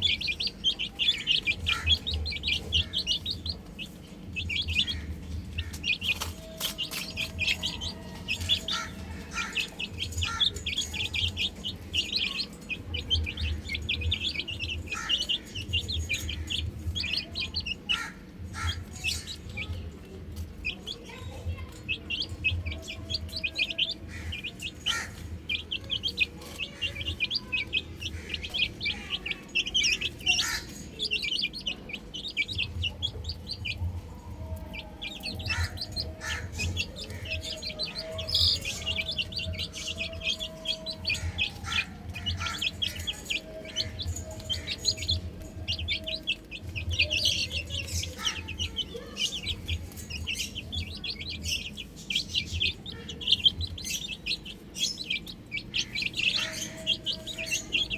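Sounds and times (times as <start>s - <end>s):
baby chicks peeping: 0.0s - 57.9s.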